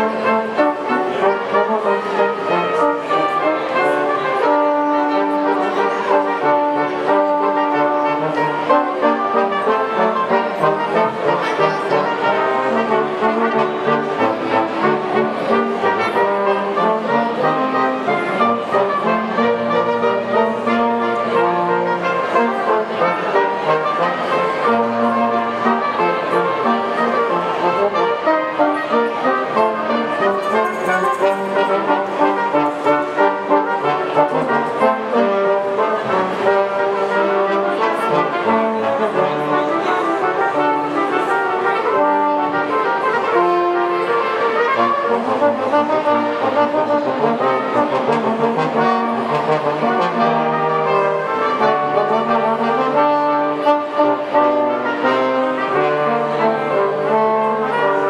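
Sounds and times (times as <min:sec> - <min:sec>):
brass ensemble music: 0:00.0 - 0:58.0.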